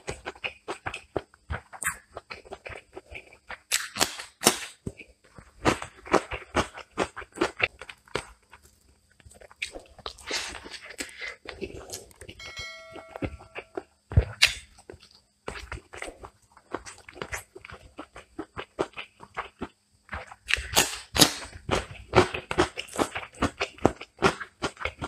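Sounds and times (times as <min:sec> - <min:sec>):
man chewing and lip-smacking: 0:00.0 - 0:12.4, 0:13.4 - 0:25.0.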